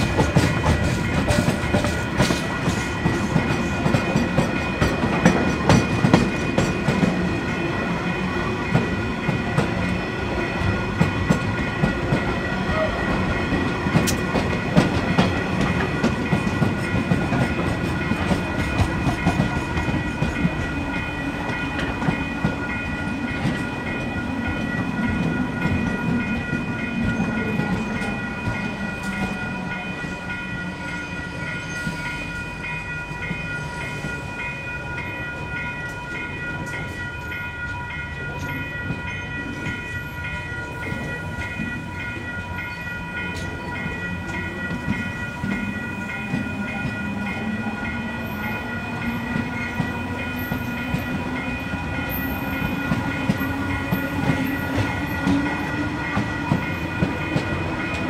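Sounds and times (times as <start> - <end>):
train engine: 0.0 - 58.0
train wheels clacking on rails: 0.0 - 58.0.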